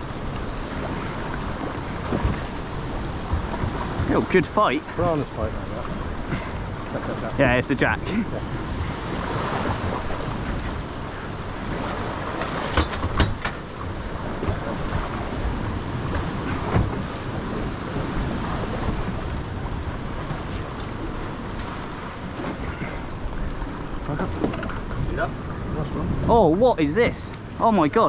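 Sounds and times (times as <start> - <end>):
choppy sea water: 0.0 - 28.0
wind buffeting microphone: 0.0 - 28.0.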